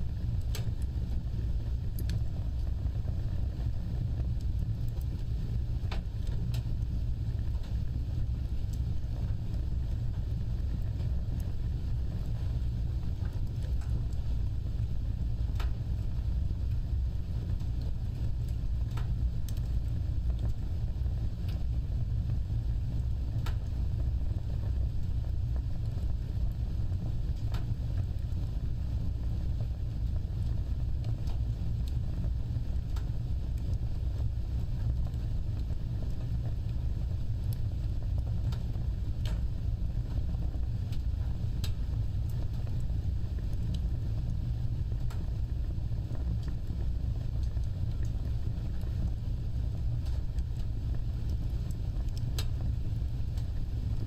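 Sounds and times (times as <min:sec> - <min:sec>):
fire crackles and pops: 0:00.0 - 0:54.0
fire rumbling: 0:00.0 - 0:54.0.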